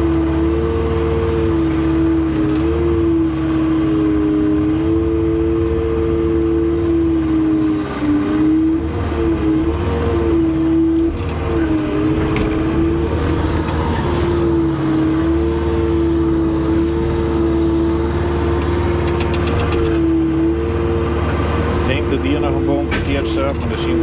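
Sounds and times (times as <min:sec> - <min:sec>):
excavator diesel engine whining: 0:00.0 - 0:24.0.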